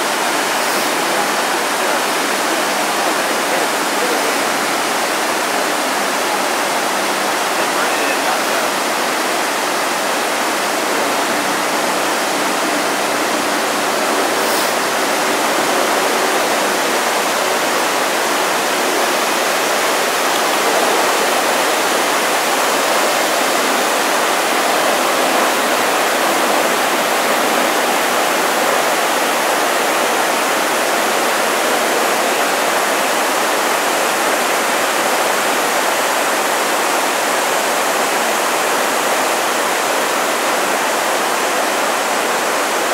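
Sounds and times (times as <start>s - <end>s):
waterfall rushing and splashing: 0.0s - 42.9s.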